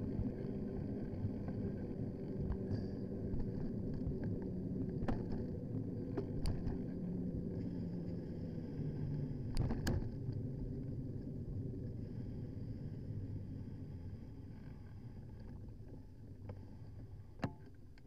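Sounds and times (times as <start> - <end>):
low rumble of bicycle riding: 0.0 - 18.0.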